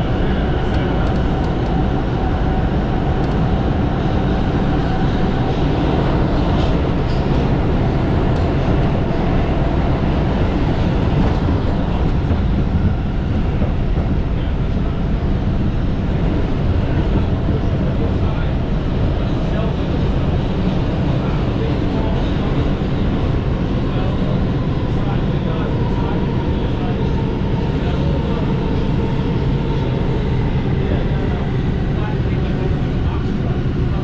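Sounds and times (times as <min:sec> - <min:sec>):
subway train rumbling in tunnel: 0:00.0 - 0:34.0.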